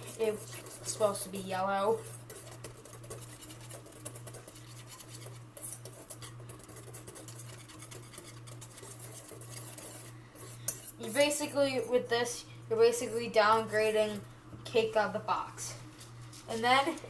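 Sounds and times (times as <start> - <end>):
wire whisk scraping a bowl: 0.0 - 14.2.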